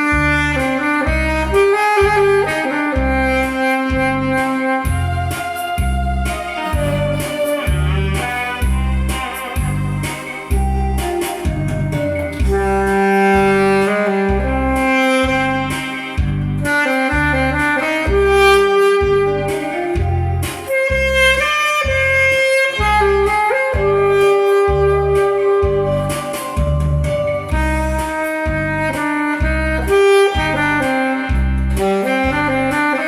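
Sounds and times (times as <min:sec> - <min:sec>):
backing track with bass beat: 0:00.0 - 0:33.0
saxophone melody: 0:00.0 - 0:33.0.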